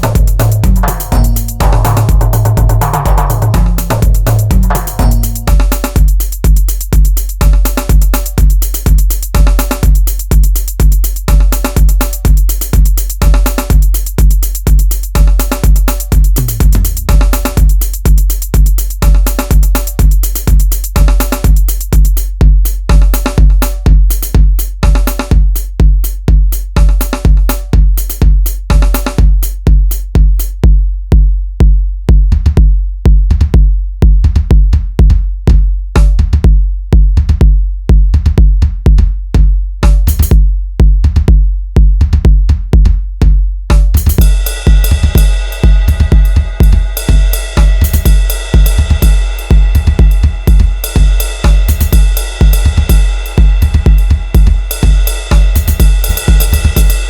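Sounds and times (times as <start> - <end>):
booming kick drum: 0.0 - 57.0.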